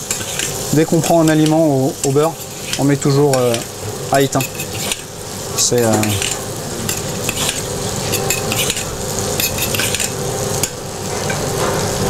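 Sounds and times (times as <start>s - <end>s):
metal spoon scraping pan: 0.0s - 5.1s, 5.8s - 11.8s
scallops sizzling in butter: 0.0s - 12.0s.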